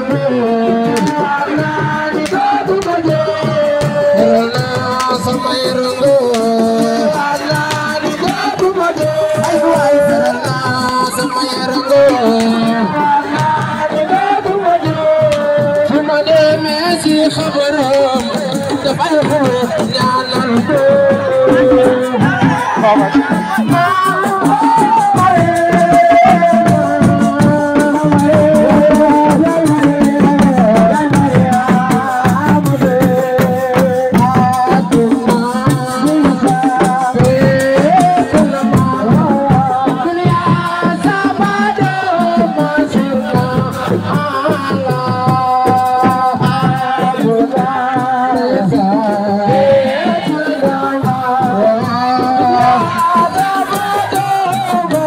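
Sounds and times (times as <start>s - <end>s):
fast rattling percussion: 0.0s - 55.0s
person singing: 0.0s - 55.0s.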